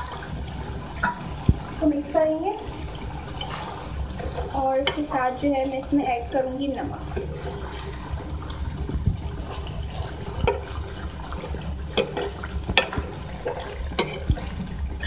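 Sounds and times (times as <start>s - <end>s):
gravy squelching and bubbling: 0.0s - 15.0s
steady low hum: 0.0s - 15.0s.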